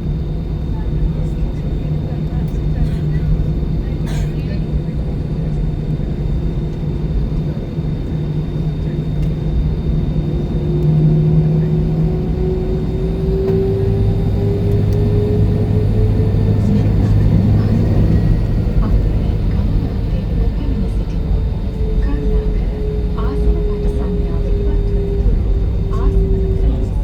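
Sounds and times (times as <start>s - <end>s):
jet engine cabin rumble: 0.0s - 27.0s
rising engine whine: 4.8s - 27.0s.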